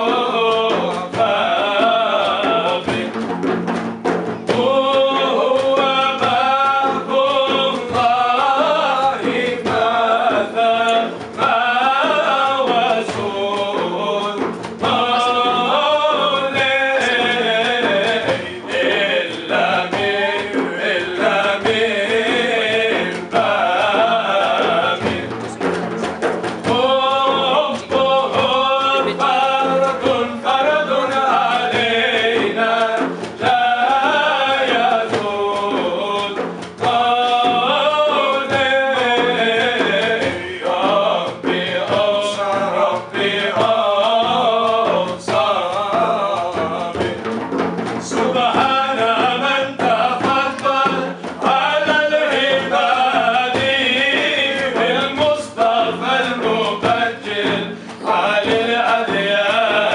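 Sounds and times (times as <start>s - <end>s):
hand drum rhythm: 0.0s - 59.9s
men singing together: 0.0s - 59.9s.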